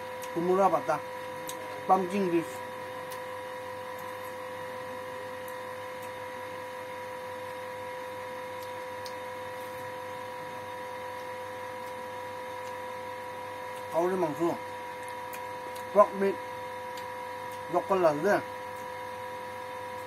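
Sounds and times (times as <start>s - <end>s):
electrical hum-whine: 0.0s - 20.0s.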